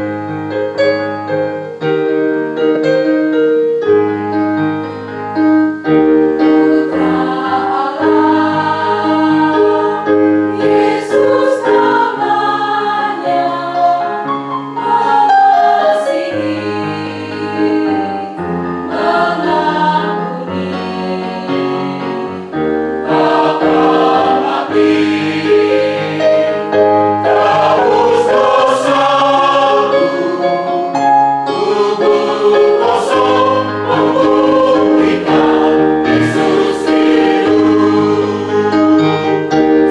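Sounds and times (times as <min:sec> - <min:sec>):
choir singing a hymn: 0:06.1 - 0:39.9.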